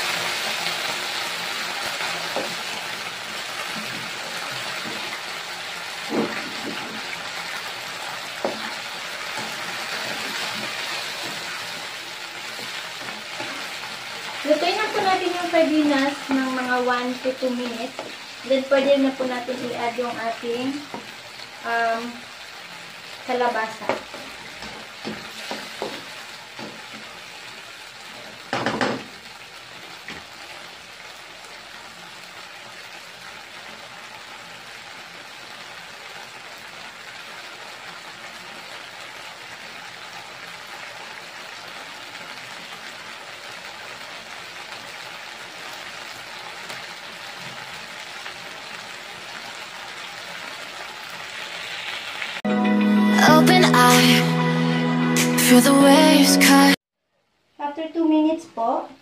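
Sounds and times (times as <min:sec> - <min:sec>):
food sizzling in a wok: 0:00.0 - 0:52.4.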